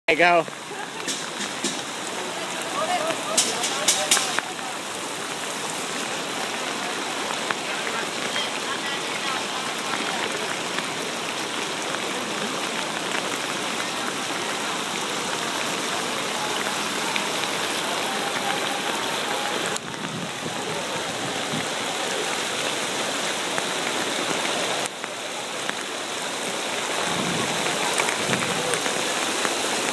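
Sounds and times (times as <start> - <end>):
rain falling on surfaces: 0.1 - 29.9.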